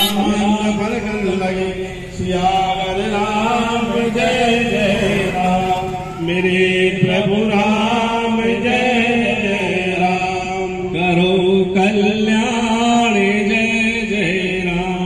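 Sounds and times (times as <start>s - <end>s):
group chanting devotional recitation: 0.0s - 15.0s.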